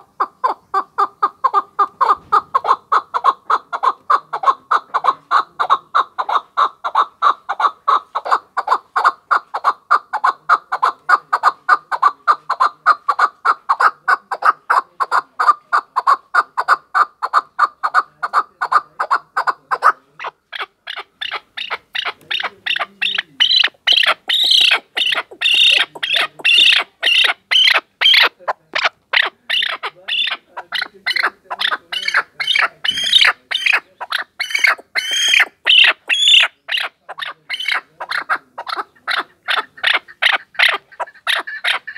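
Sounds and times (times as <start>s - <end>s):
partridge clucking calls: 0.0s - 41.9s.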